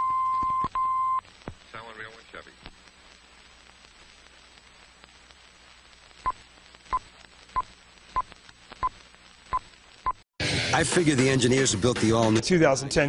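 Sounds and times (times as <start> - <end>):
old film soundtrack hiss and crackle: 0.0 - 13.0.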